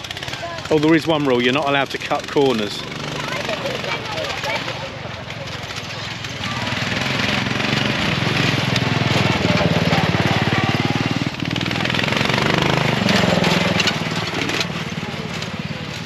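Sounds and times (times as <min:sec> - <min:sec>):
racing lawnmower engines: 0:00.0 - 0:16.0.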